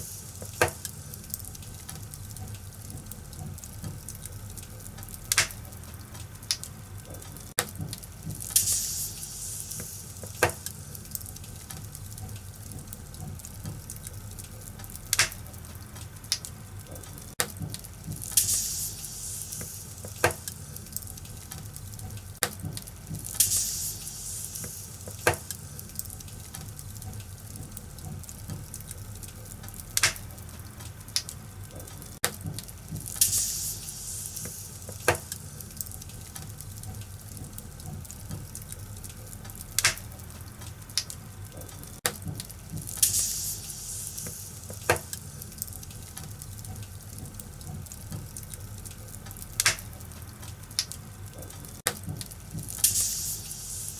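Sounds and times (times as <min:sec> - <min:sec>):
low steady rumble: 0:00.0 - 0:53.9
wood fire crackling and popping: 0:00.0 - 0:53.9.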